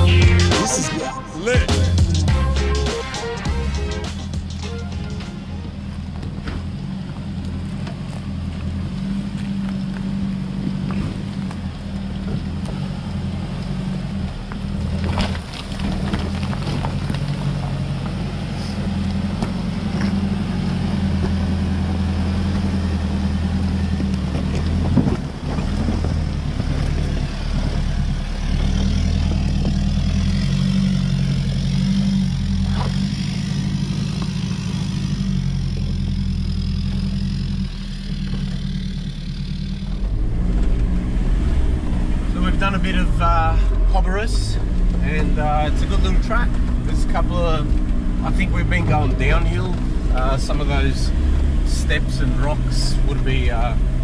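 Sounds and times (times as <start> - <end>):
vehicle engine running at low revs: 1.6 - 54.0.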